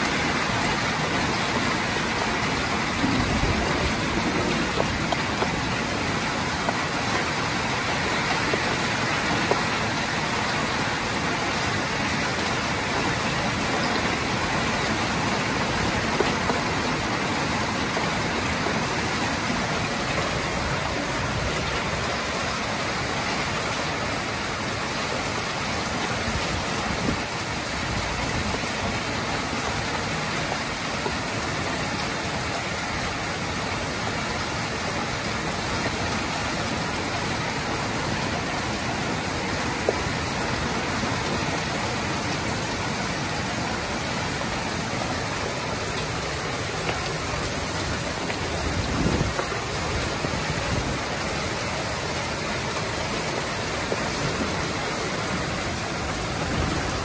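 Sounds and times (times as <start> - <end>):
heavy rain on pavement and car: 0.0 - 57.0.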